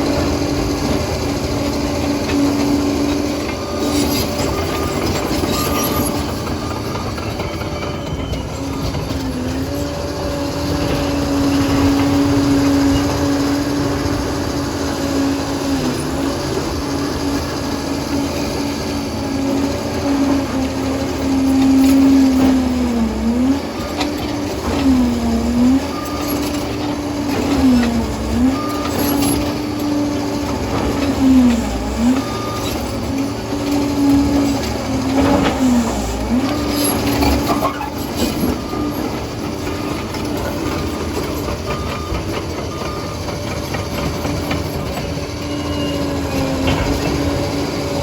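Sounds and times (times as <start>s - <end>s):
bulldozer engine whine: 0.0s - 48.0s.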